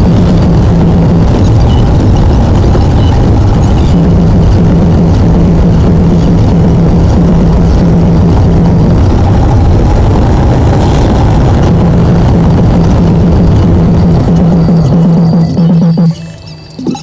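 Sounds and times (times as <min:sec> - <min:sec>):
car engine and road rumble: 0:00.0 - 0:17.0
constant low hum: 0:00.0 - 0:17.0.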